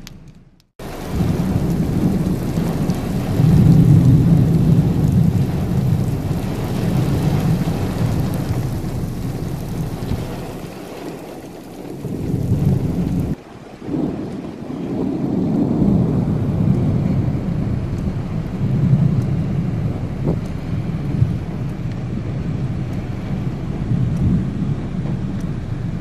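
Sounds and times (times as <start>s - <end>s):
heavy steady rain: 0.8s - 26.0s
thunder rumbling: 0.8s - 26.0s.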